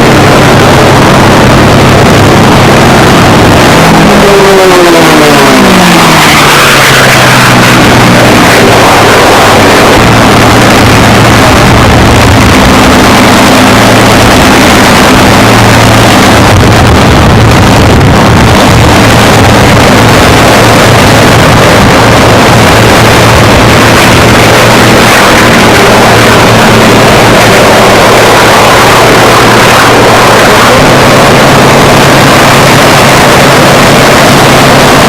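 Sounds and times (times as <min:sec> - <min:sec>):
piston aircraft engine running: 0:00.0 - 0:35.0.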